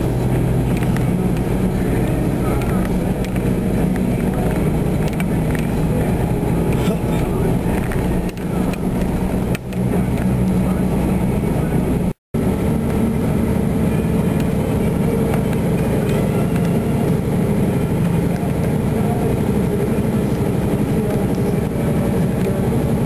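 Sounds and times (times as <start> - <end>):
lorry engine drone: 0.0 - 23.0
tyres on road: 0.0 - 23.0.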